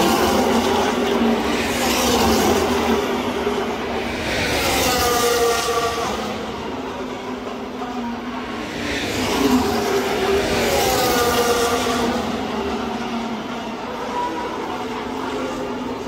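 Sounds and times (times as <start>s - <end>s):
racing cars speeding past: 0.0s - 7.7s, 8.4s - 16.0s.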